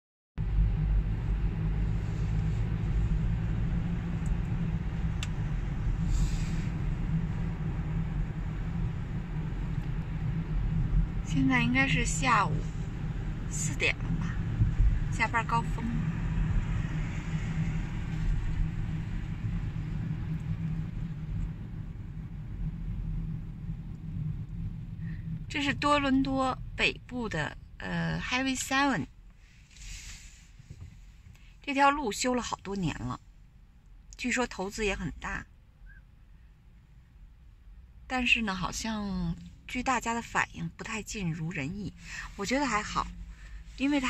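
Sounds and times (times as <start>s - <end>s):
car road rumble inside cabin: 0.4s - 44.0s.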